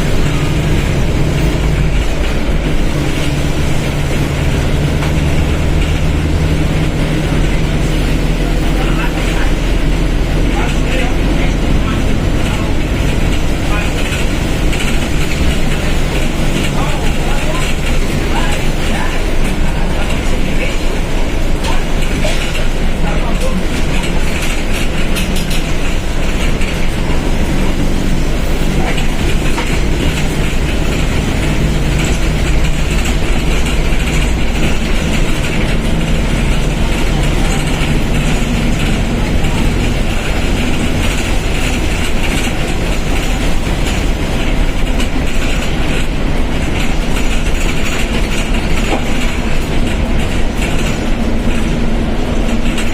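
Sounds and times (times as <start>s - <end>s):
bus diesel engine rumble: 0.0s - 52.9s.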